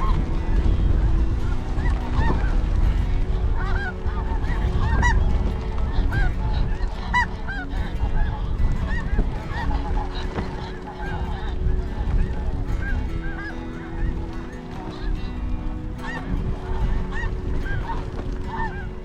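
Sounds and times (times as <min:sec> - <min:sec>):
snow geese honking: 0:00.0 - 0:19.0
wind buffeting microphone: 0:00.0 - 0:19.0.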